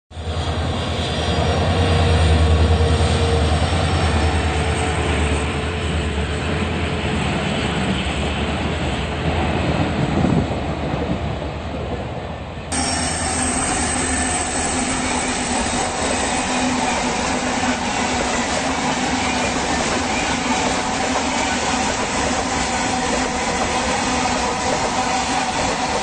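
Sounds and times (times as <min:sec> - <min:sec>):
train rumbling past: 0:00.1 - 0:26.0.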